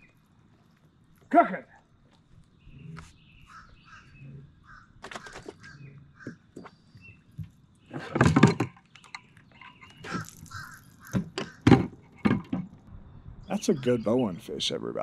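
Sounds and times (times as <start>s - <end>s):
birds calling: 1.9s - 15.0s.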